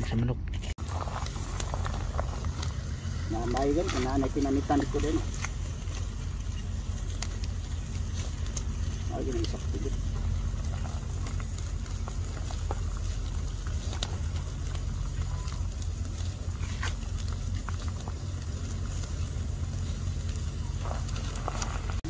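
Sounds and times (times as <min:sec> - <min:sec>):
low rumble: 0:00.0 - 0:22.0
wood fire crackling: 0:00.0 - 0:22.0.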